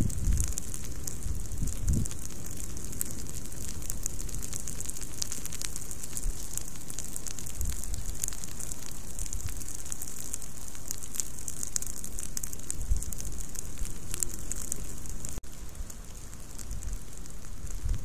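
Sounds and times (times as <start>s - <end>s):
flames crackling and popping: 0.0s - 18.0s
steady fire hiss: 0.0s - 18.0s.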